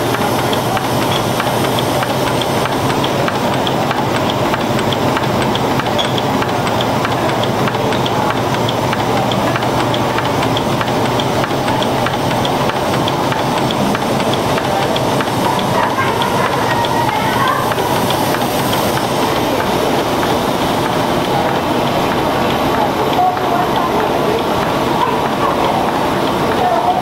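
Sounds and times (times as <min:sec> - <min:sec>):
regular ticking: 0:00.0 - 0:27.0
steam engines running: 0:00.0 - 0:27.0
steam hissing: 0:00.0 - 0:27.0.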